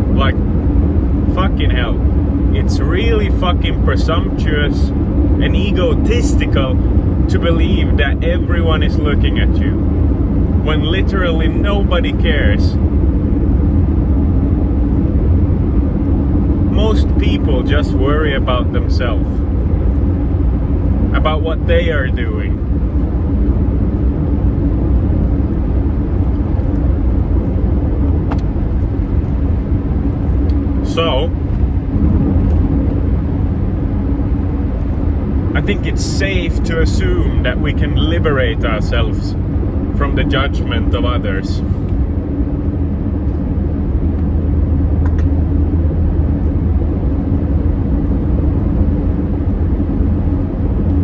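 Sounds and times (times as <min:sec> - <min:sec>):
car engine and road rumble: 0:00.0 - 0:51.0
constant hum: 0:00.0 - 0:51.0.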